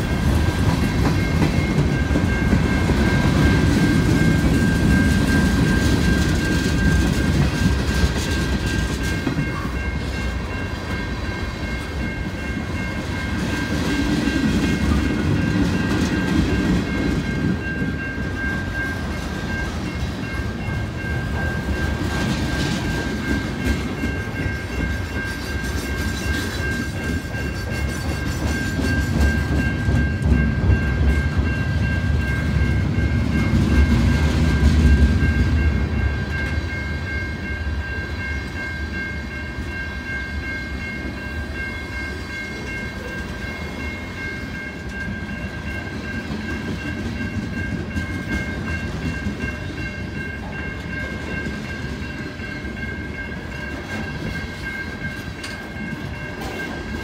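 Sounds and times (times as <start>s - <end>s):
crossing warning bell ringing: 0.0s - 57.0s
freight train wheels rumbling: 0.0s - 57.0s.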